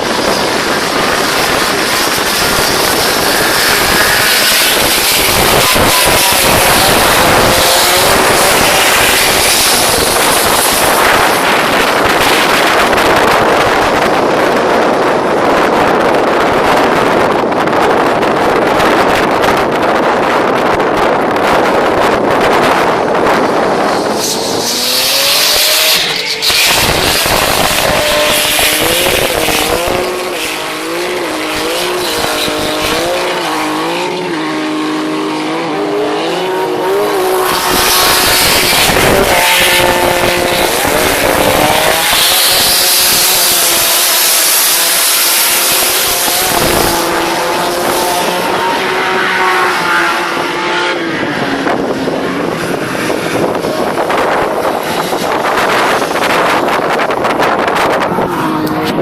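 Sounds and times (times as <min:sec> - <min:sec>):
car engine revving: 0:00.0 - 0:59.0
loud tyre noise: 0:00.0 - 0:59.0.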